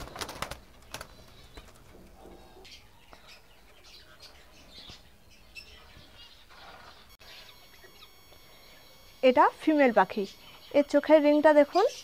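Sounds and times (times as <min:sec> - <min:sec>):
faint bird chirps: 0:01.0 - 0:12.0.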